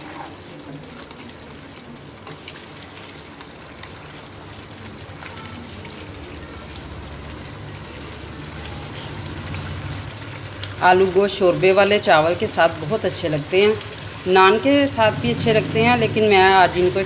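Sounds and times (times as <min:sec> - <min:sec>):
meat and potatoes sizzling: 0:00.0 - 0:17.0.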